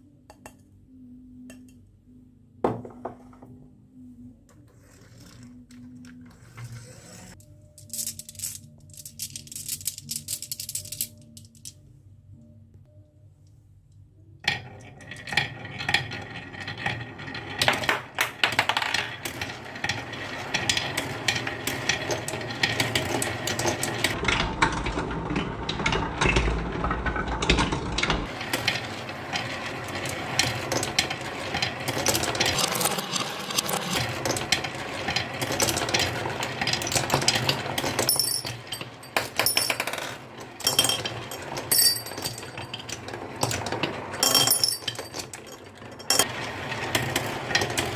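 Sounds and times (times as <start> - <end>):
marbles clattering down a track: 6.5 - 11.8, 14.4 - 47.9.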